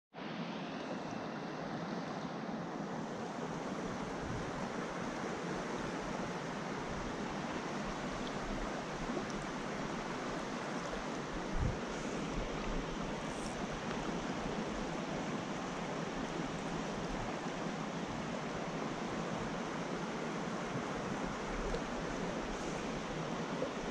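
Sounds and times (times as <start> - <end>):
creek water rushing over riffles: 0.2 - 23.9.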